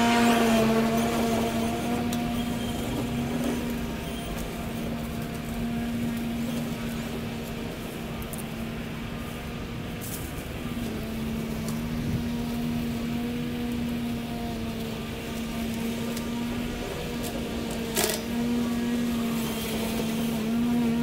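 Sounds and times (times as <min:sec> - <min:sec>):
electric lawn mower humming: 0:00.0 - 0:21.0.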